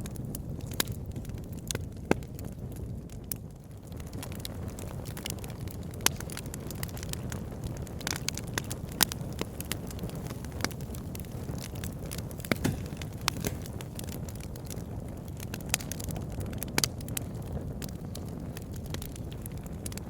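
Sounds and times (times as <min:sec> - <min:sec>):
fire crackling: 0:00.0 - 0:20.0
low rushing of flames: 0:00.0 - 0:20.0.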